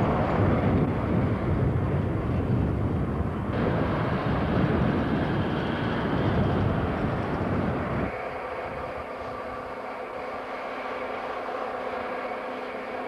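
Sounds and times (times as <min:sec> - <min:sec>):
train rumbling along rails: 0:00.0 - 0:13.0.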